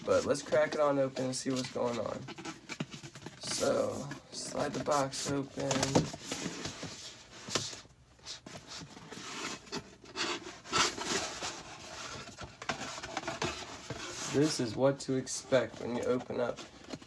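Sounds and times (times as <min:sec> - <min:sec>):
cardboard rubbing and scraping: 0:00.2 - 0:14.7.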